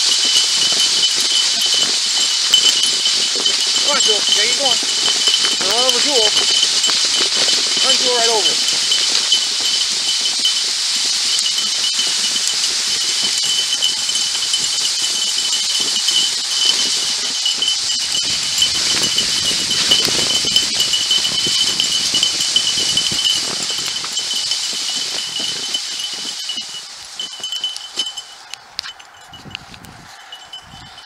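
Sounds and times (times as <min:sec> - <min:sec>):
sled frame rattling: 0:00.0 - 0:31.0
sled runners hissing over snow: 0:00.0 - 0:31.0.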